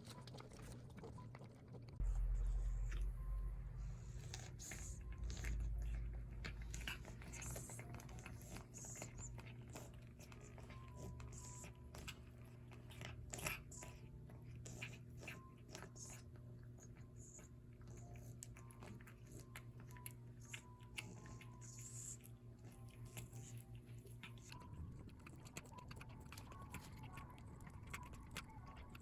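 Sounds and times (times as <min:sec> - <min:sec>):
cat crunching food: 0:00.0 - 0:29.0
low steady hum: 0:00.0 - 0:29.0.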